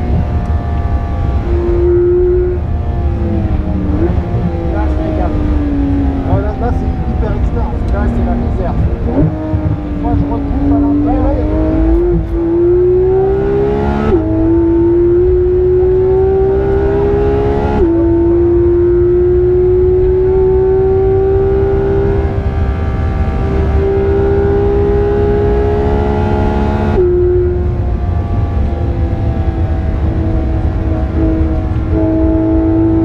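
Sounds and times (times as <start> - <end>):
car engine accelerating: 0.0 - 33.0
low road rumble: 0.0 - 33.0.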